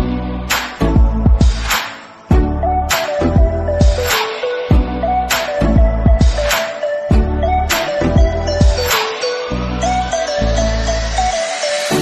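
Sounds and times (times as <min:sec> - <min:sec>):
music with bass and drum beat: 0:00.0 - 0:12.0.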